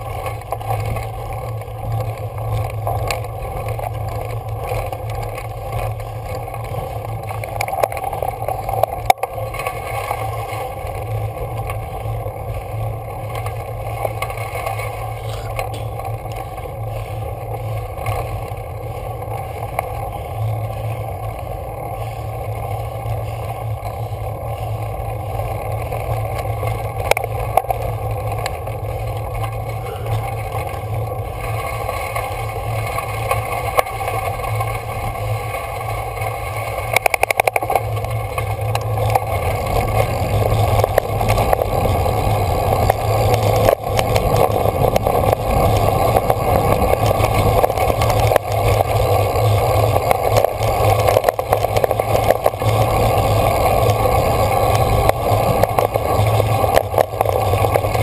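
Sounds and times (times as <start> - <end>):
tyres rumbling on gravel: 0.0 - 58.0.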